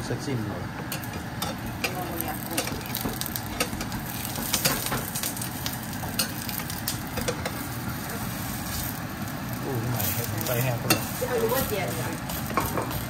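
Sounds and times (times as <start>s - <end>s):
batter sizzling in frying pan: 0.0s - 13.0s.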